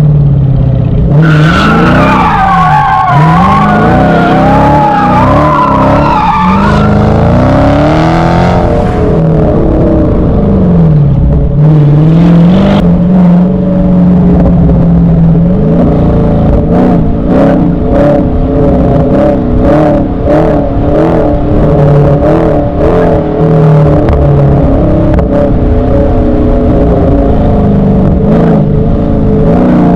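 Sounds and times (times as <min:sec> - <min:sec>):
loud car engine revving: 0:00.0 - 0:29.9.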